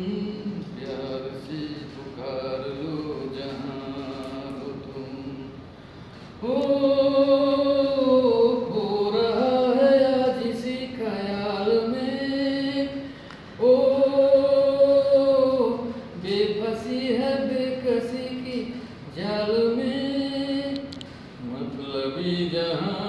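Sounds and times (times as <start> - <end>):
man singing unaccompanied: 0.0 - 5.7, 6.4 - 23.0.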